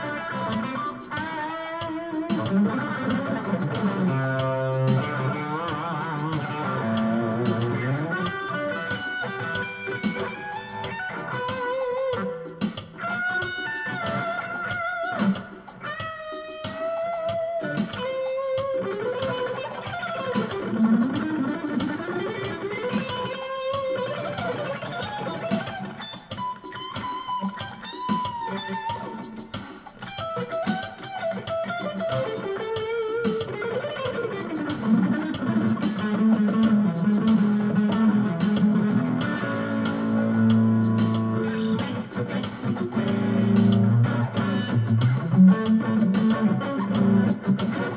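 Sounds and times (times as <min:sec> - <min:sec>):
drum machine groove: 0:00.0 - 0:47.9
electric guitar lead lines: 0:00.0 - 0:47.9.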